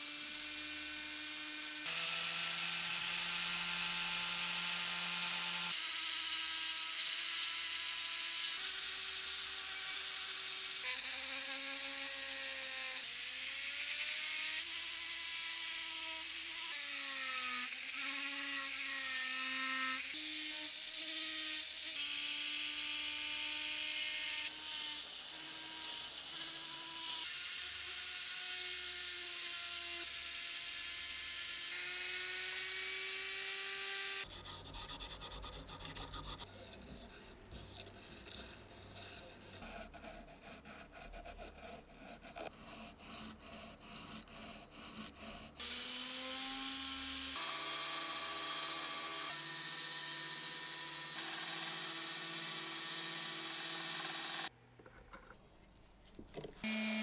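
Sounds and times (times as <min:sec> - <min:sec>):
rotary tool grinding metal: 0:00.0 - 0:54.5.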